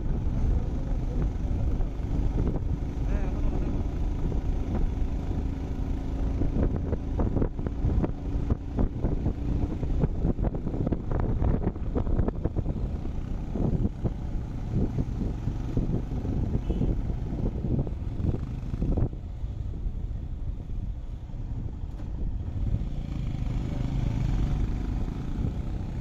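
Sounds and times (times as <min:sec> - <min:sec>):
wind buffeting microphone: 0:00.0 - 0:23.5
motorcycle engine running: 0:00.0 - 0:26.0.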